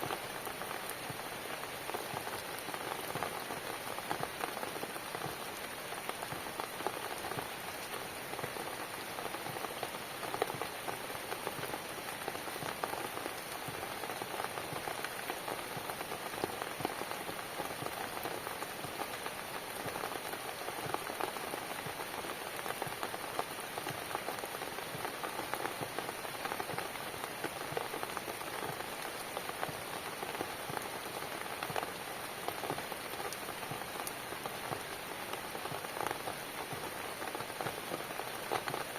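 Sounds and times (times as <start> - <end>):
steady rain on cabin: 0.0 - 38.9.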